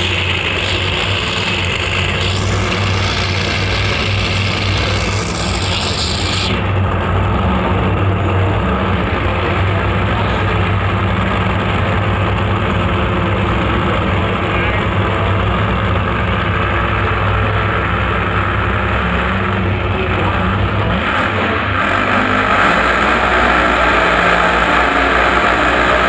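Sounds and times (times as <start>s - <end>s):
drag car engines rumbling: 0.0s - 26.0s.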